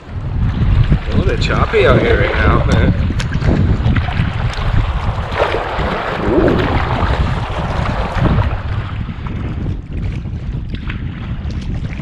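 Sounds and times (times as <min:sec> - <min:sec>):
paddle strokes in water: 0:00.0 - 0:12.0
water splashing against kayak: 0:00.0 - 0:12.0
wind buffeting microphone: 0:00.0 - 0:12.0.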